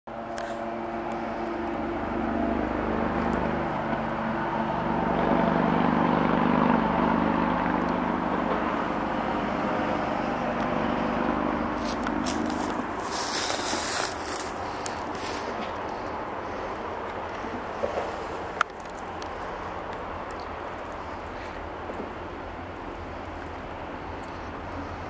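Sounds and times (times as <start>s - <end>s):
diesel locomotive engines droning: 0.1s - 25.0s.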